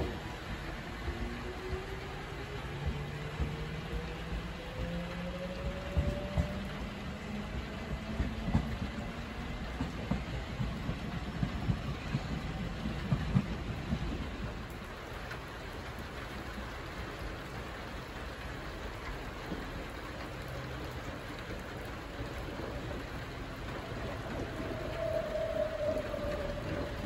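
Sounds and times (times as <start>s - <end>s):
rain hissing: 0.0s - 27.0s
train rumble and wheel clatter: 0.0s - 27.0s.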